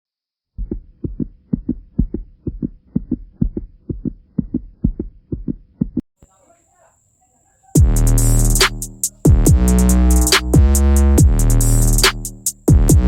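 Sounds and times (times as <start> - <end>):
heartbeat thumps: 0.6 - 6.0, 7.8 - 13.0.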